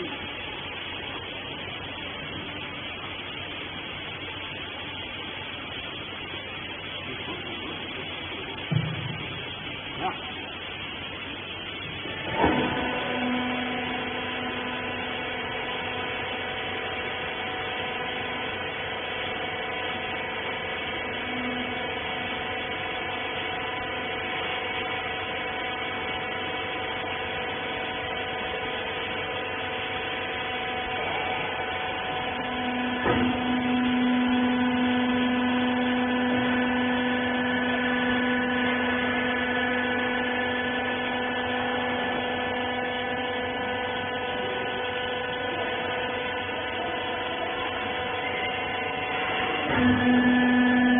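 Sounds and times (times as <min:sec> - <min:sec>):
motor and hydraulic pump hum: 0:00.0 - 0:50.9.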